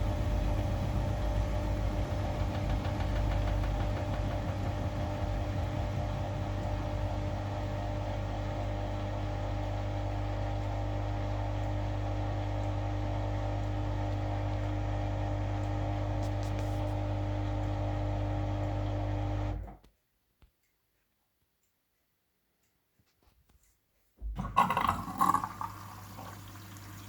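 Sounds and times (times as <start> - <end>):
washing machine motor humming: 0.0 - 19.8, 24.2 - 27.0.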